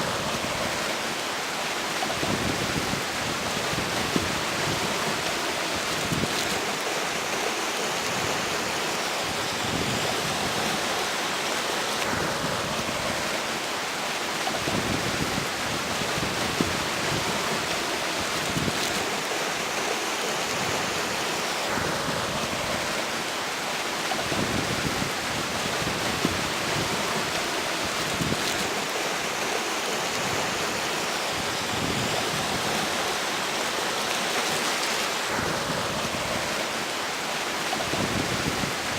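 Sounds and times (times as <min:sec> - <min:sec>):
river water rushing: 0:00.0 - 0:38.9
wind gusting against microphone: 0:02.0 - 0:38.9.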